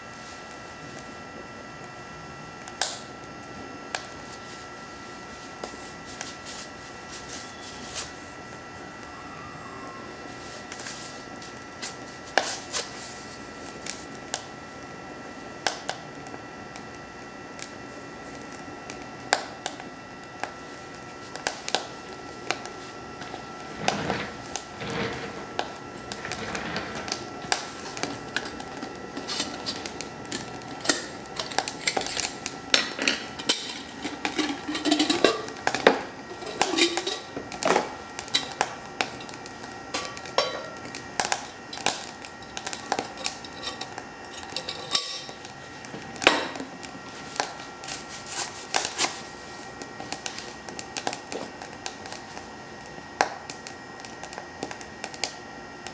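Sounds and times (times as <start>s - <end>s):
wood fire crackling and popping: 0.0s - 9.2s, 9.8s - 55.9s
high whine of electric fan: 0.0s - 55.9s.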